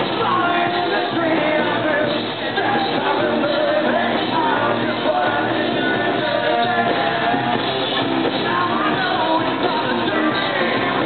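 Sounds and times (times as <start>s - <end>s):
man singing into microphone: 0.0s - 7.6s, 8.3s - 11.0s
live rock band playing: 0.0s - 11.0s.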